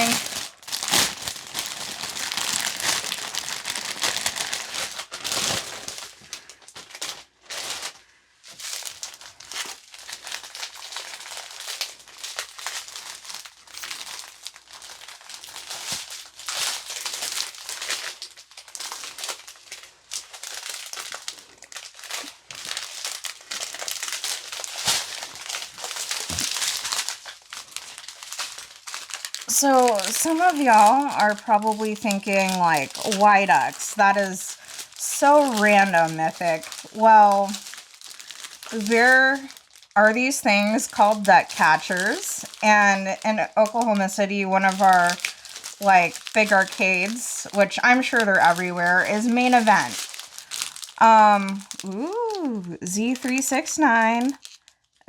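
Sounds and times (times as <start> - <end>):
plastic packaging crinkling: 0.0 - 55.0.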